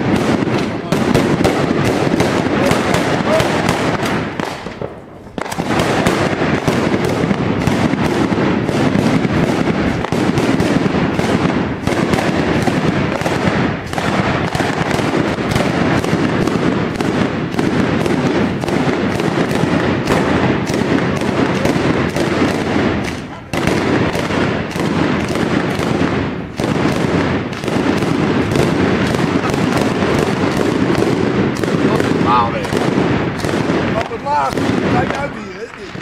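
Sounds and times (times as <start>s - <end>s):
firework barrage bangs and crackles: 0.0s - 36.0s.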